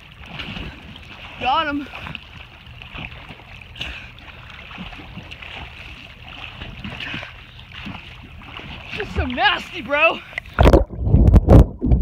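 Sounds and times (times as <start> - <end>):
pond water lapping: 0.0 - 10.9
splashing of wading: 0.0 - 12.0.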